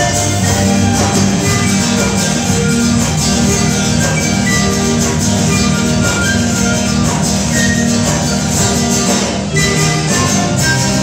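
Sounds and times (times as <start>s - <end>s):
acoustic guitars: 0.0s - 11.0s
panpipes: 0.0s - 11.0s
violin: 0.0s - 11.0s.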